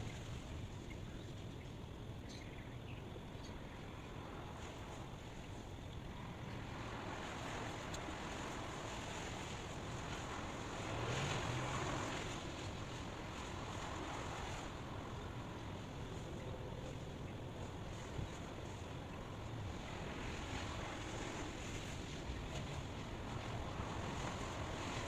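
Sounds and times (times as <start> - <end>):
rushing white noise: 0.0 - 25.0.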